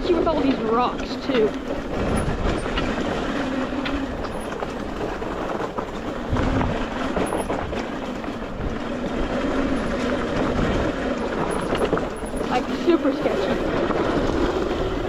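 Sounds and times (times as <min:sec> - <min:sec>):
chain and tyres clattering on rocks: 0:00.0 - 0:15.0.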